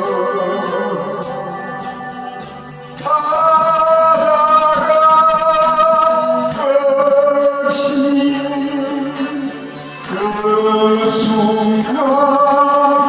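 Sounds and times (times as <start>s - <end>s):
instrumental backing: 0.0s - 13.0s
man singing slow ballad: 0.0s - 13.0s.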